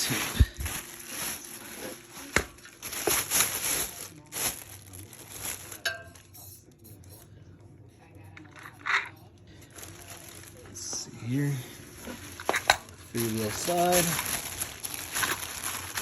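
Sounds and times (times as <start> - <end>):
plastic wrap crinkling: 0.0 - 6.4, 9.5 - 16.0.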